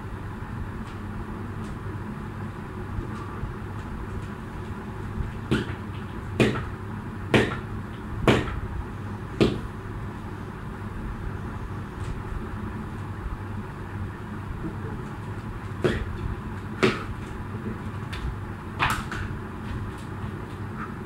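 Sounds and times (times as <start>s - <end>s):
low room noise: 0.0s - 21.0s.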